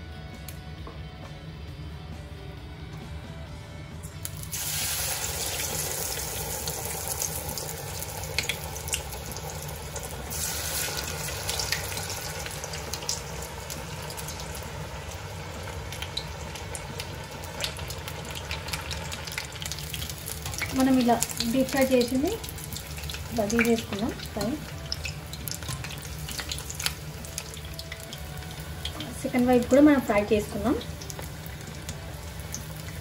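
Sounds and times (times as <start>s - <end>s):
deep-frying sizzle: 4.2s - 33.0s.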